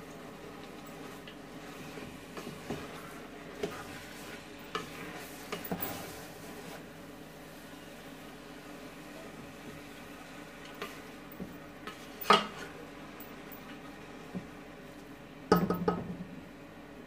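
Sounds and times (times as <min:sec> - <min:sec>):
spatula stirring greens in pot: 0:00.1 - 0:14.7.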